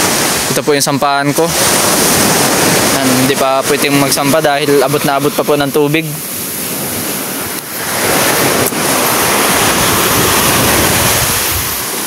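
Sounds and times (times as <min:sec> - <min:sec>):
sea waves washing ashore: 0:00.0 - 0:12.0
wind on microphone: 0:00.0 - 0:12.0.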